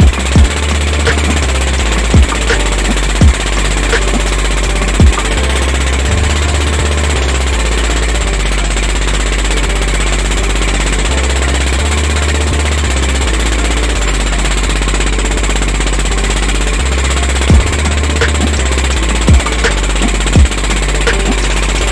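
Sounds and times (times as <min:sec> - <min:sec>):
boat diesel engine running: 0:00.0 - 0:21.9.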